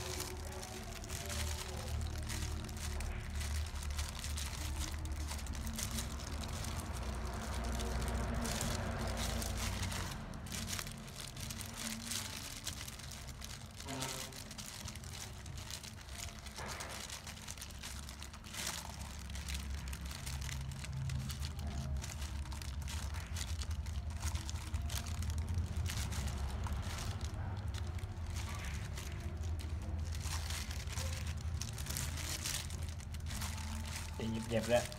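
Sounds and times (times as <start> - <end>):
plastic gloves crinkling: 0.0 - 34.9
wet squishing: 0.0 - 34.9.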